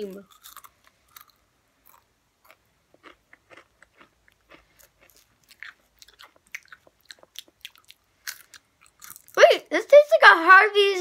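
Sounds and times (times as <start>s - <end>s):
potato chips crunching: 0.0s - 9.4s.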